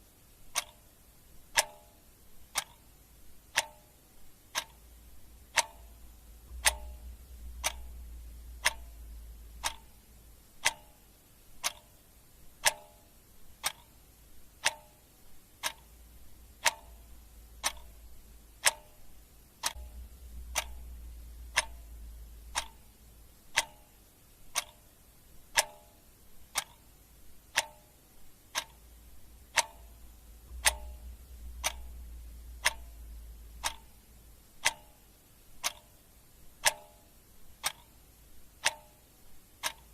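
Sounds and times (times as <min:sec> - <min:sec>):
faint low hum: 0:00.0 - 0:39.9
clock ticking: 0:00.2 - 0:39.9.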